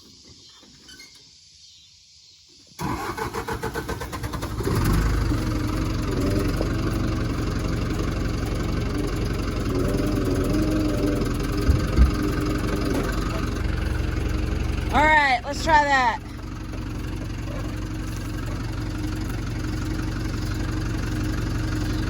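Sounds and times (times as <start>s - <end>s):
engine cranking and starting: 2.8s - 22.0s.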